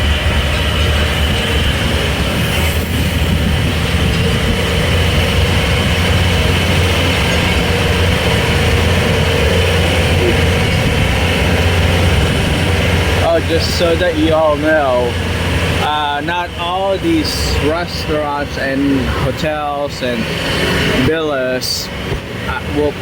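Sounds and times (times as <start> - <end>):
train engine rumbling: 0.0 - 23.0.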